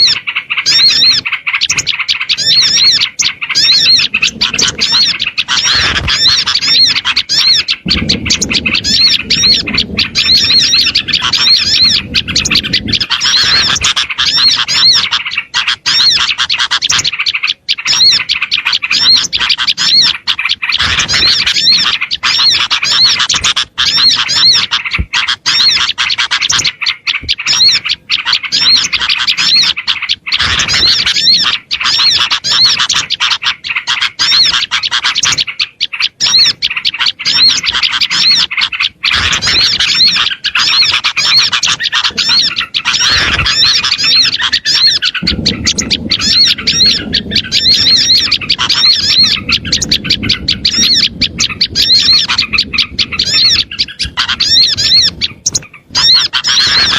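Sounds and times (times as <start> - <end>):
songbirds chirping chorus: 0.0 - 56.9.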